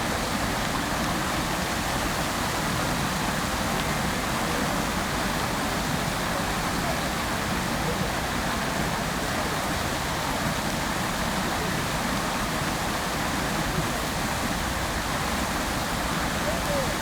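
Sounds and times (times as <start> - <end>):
fountain water splashing: 0.0 - 17.0.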